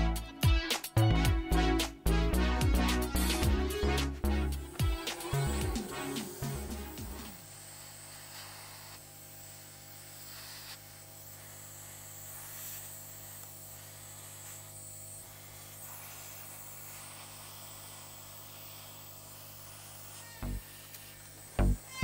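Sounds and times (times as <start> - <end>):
hot air gun blowing: 2.8 - 22.0.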